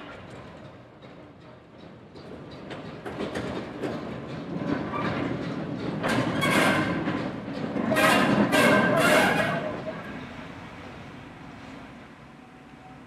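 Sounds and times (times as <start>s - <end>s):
wheels clicking over rail joints: 0.0s - 11.2s
diesel locomotive running past: 0.0s - 13.0s.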